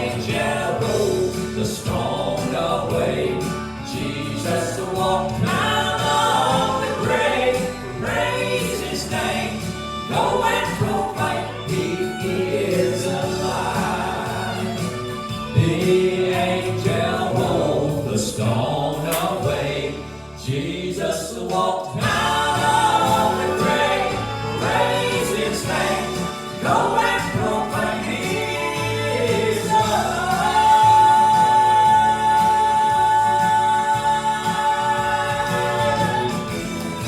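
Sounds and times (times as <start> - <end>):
vocal trio singing gospel: 0.0 - 37.0.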